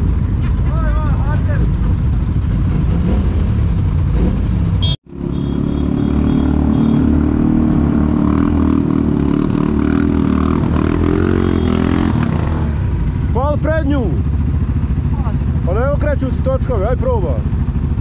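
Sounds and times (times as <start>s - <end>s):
quad bike engine running: 0.0s - 18.0s
several atv engines running: 0.0s - 18.0s.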